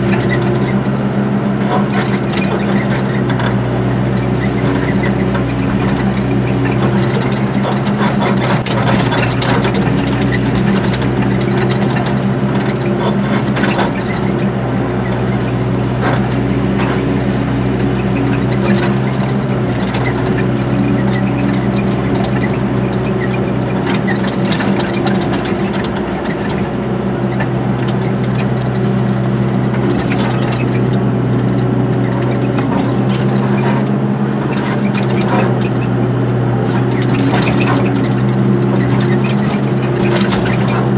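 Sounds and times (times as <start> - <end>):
diesel engine under load: 0.0 - 40.9
machine clanks and scrapes: 1.6 - 40.9.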